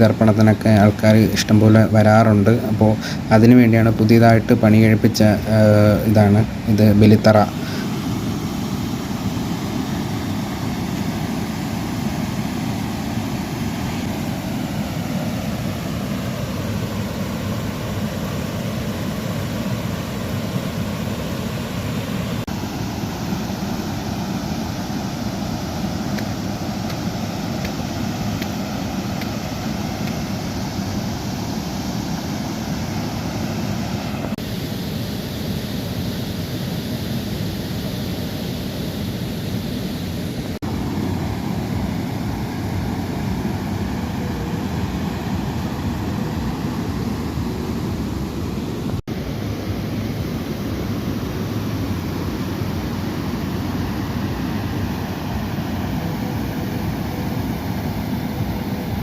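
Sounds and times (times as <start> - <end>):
river water rushing at waterfall: 0.0 - 59.0.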